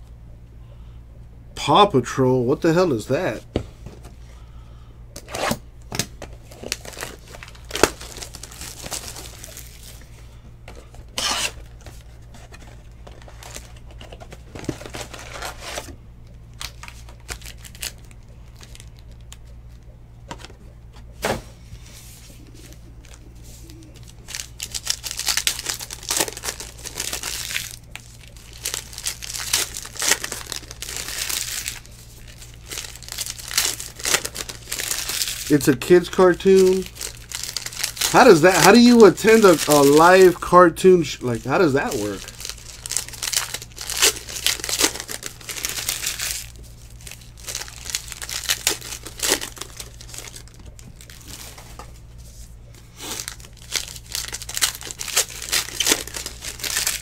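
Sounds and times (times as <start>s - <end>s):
plastic wrapping tearing and crinkling: 5.2s - 10.0s, 10.8s - 15.9s, 16.5s - 19.8s, 23.9s - 52.1s, 52.8s - 57.0s.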